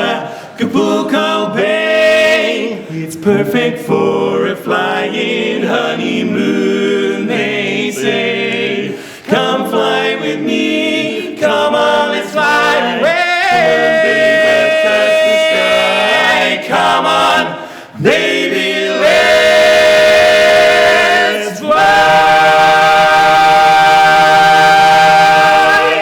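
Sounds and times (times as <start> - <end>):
male quartet singing a cappella: 0.0 - 26.0.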